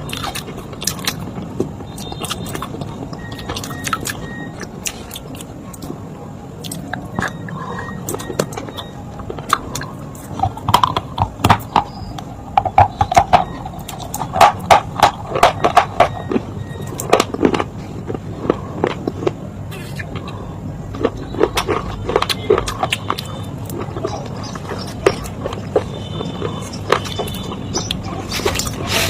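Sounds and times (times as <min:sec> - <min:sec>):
crunching and chewing: 0:00.0 - 0:06.0, 0:06.6 - 0:29.0.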